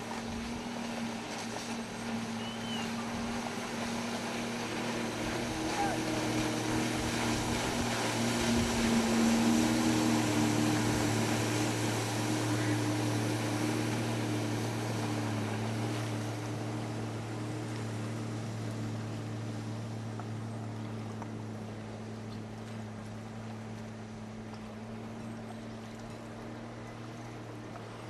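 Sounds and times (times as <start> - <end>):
water and wind noise: 0.0 - 28.0
watercraft engine running: 0.0 - 28.0.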